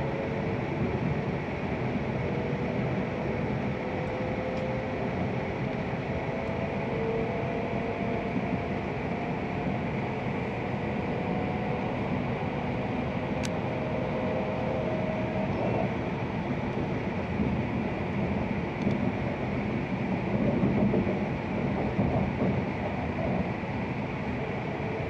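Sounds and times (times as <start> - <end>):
train cabin rumble and whine: 0.0 - 25.0.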